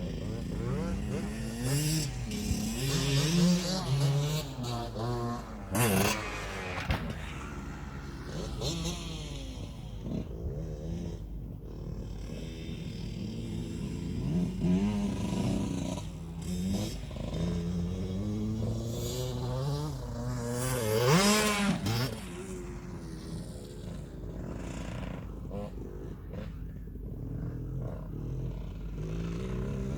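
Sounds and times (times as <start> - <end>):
motocross engine revving: 0.0 - 29.9.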